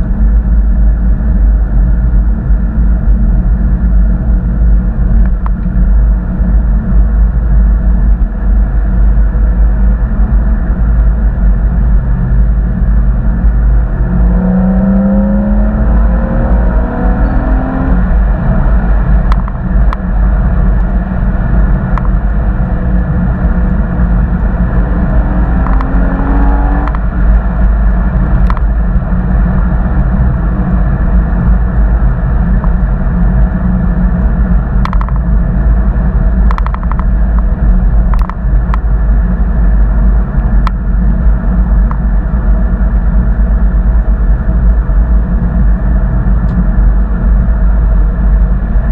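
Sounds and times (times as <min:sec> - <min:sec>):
car engine accelerating: 0:07.7 - 0:48.9.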